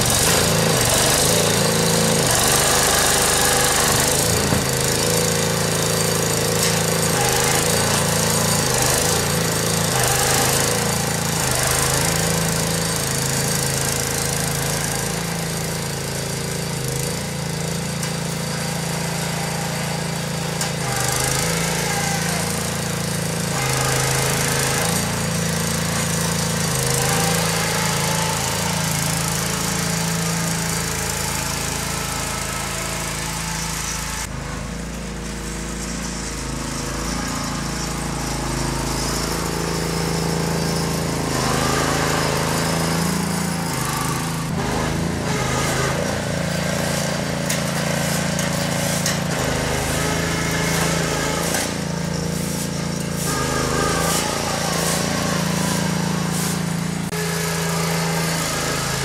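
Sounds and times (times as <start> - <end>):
small engine running under load: 0.0 - 59.0.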